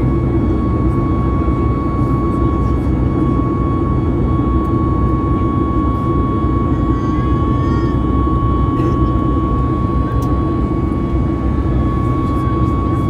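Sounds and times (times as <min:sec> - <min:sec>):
airplane cabin drone: 0:00.0 - 0:13.0.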